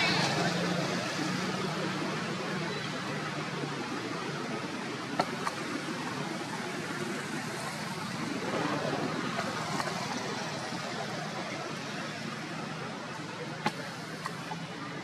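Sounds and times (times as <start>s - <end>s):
steady rushing background noise: 0.0s - 15.0s.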